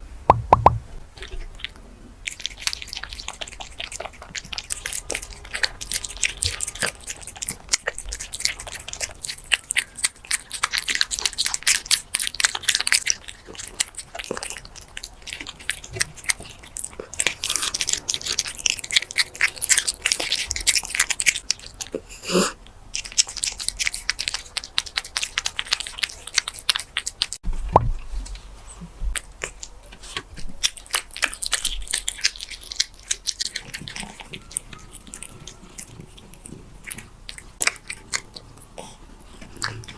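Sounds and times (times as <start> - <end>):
cat chewing and crunching food: 1.1 - 39.9.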